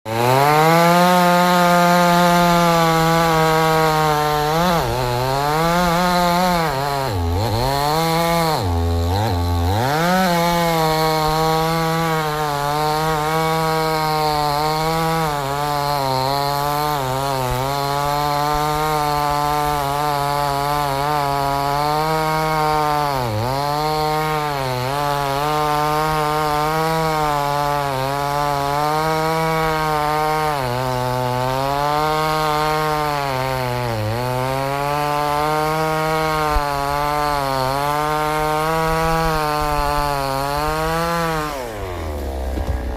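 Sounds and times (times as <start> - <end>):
chainsaw cutting wood: 0.1 - 42.9.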